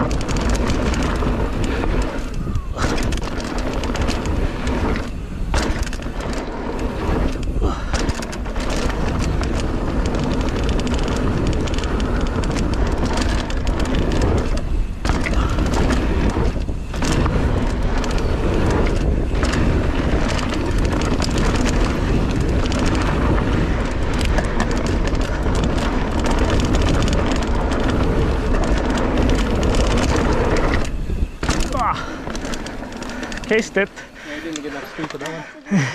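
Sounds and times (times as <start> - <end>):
bike knocking and rattling: 0.0 - 35.9
bike tyres rolling on dirt: 0.0 - 35.9
wind buffeting microphone: 0.0 - 35.9.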